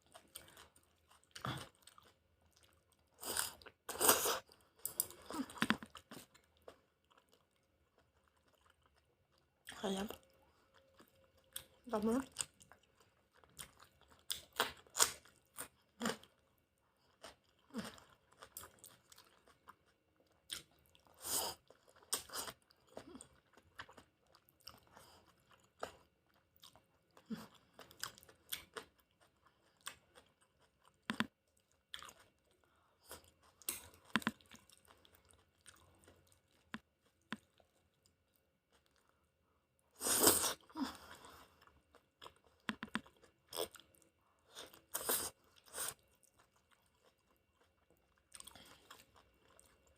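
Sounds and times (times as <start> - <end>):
person chewing and smacking: 0.0 - 39.2, 40.5 - 49.9.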